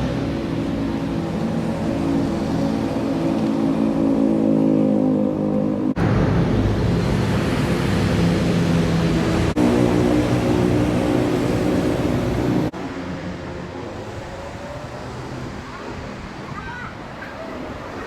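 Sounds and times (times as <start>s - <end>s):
road traffic engines humming: 0.0s - 18.0s.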